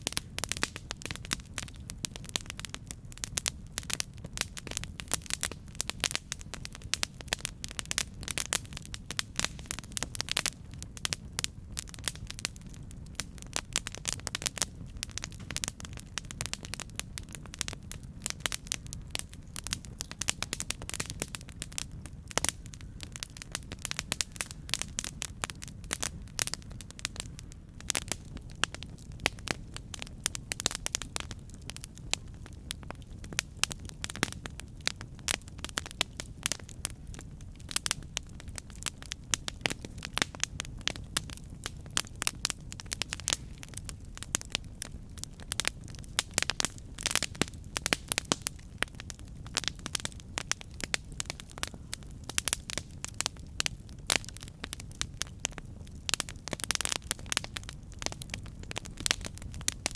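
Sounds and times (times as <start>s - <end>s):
campfire crackling and popping: 0.0s - 59.9s
low rumble of flame: 0.0s - 59.9s.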